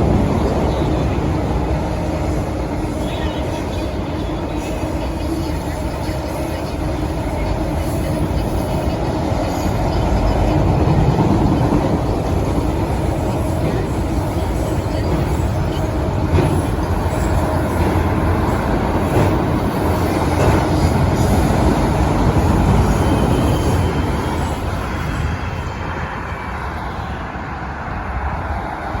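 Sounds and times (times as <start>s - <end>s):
rail joint clicks: 0.0s - 25.8s
train wheels rumbling on rails: 0.0s - 29.0s.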